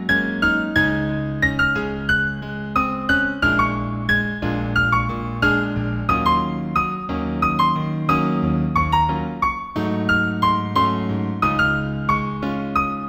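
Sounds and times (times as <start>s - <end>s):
slow piano piece: 0.0s - 13.0s.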